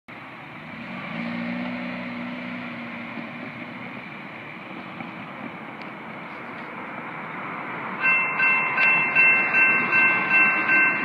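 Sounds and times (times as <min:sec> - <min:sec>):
car engine hum: 0:00.1 - 0:11.0.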